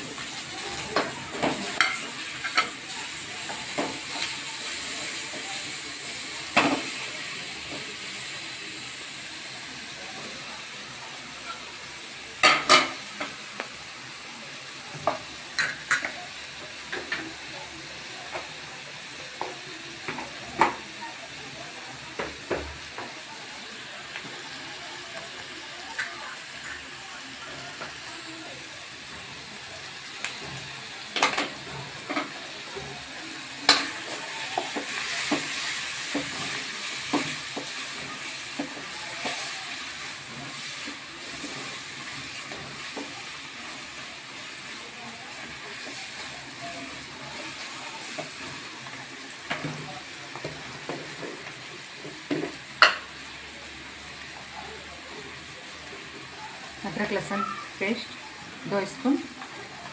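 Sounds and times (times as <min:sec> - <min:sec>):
vegetables sizzling in a pan: 0:00.0 - 0:59.9.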